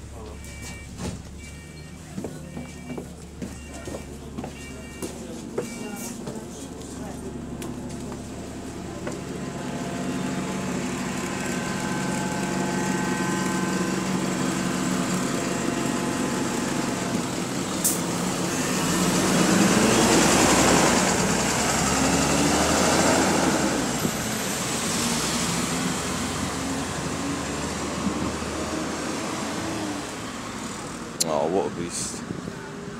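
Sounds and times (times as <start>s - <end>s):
bus engine idling and revving: 0.0s - 32.9s.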